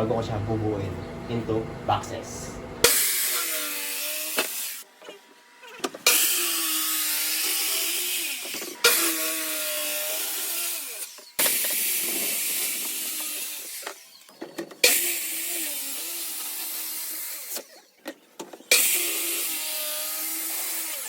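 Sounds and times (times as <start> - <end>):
electric saw cutting plywood: 0.0 - 21.0.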